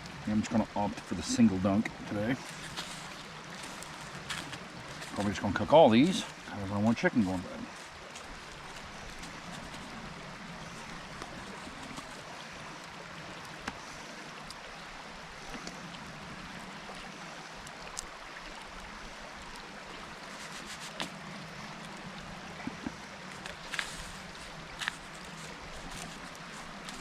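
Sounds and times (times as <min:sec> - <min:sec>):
creek running: 0:00.0 - 0:27.0.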